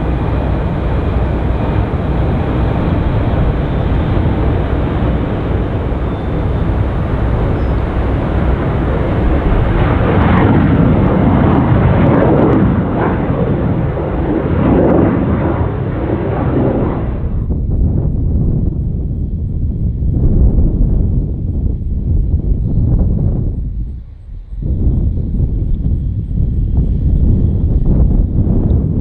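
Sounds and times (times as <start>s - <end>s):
jet airliner engines rumbling: 0.0s - 29.0s.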